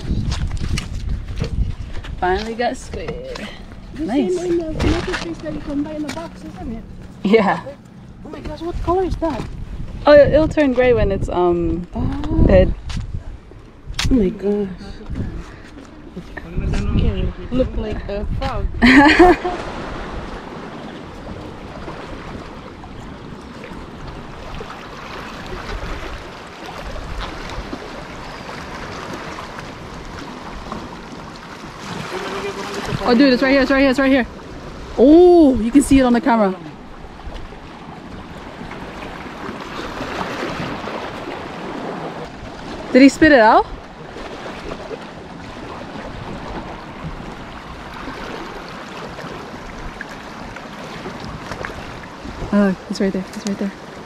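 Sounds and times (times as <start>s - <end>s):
seawater lapping around rocks: 0.0s - 54.0s
wind rumbling on microphone: 0.0s - 54.0s.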